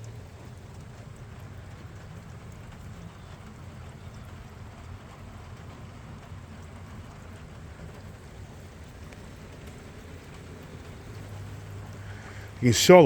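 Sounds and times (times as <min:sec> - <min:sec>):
faint drip ticks: 0:00.0 - 0:13.0
steady rain hiss: 0:00.0 - 0:13.0.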